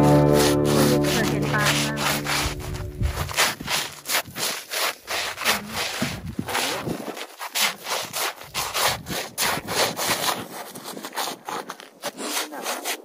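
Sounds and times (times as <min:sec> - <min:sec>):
sneakers scraping snow on ice: 0:00.0 - 0:13.0.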